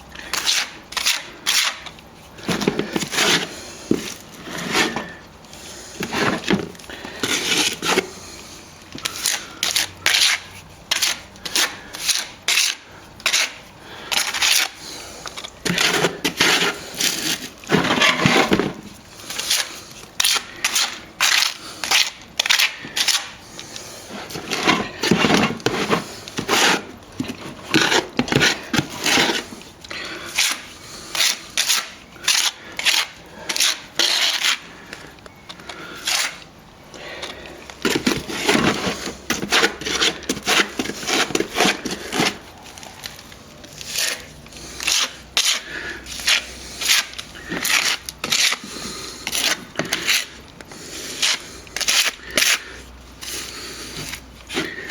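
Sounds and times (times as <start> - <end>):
plastering tools scraping and clacking: 0.2 - 54.9.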